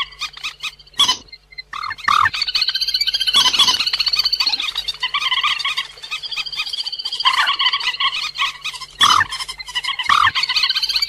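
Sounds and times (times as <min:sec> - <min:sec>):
rail bird croaking calls: 0:00.0 - 0:11.0.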